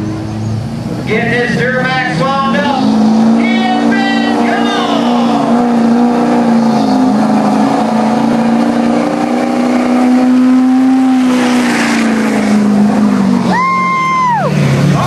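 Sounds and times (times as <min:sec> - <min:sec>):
diesel truck engine at high revs: 0:00.0 - 0:15.0.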